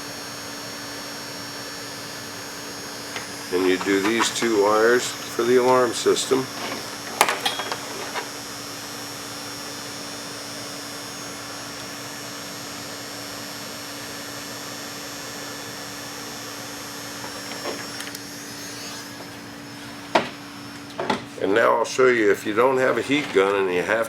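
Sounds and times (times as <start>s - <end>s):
heat gun blowing: 0.0s - 21.5s.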